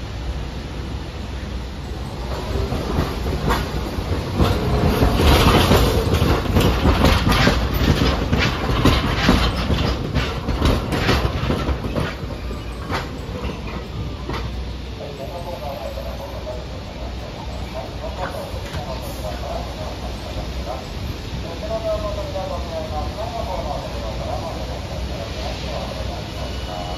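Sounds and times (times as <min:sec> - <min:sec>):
streetcar low rumble: 0:00.0 - 0:26.9
streetcar wheels clacking on track: 0:01.4 - 0:26.9.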